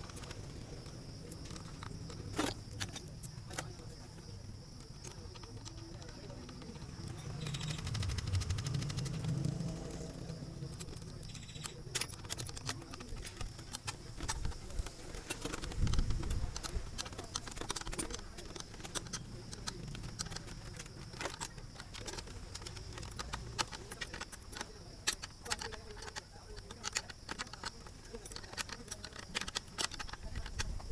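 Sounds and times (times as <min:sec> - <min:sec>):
light clicks and taps of parts: 0:00.0 - 0:30.9.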